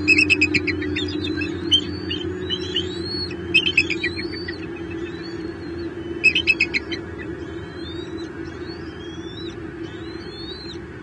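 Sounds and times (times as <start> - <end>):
rapid high bird chirps: 0.0 - 10.8
birds whistling rising notes: 0.0 - 11.0
steady low hum: 0.0 - 11.0.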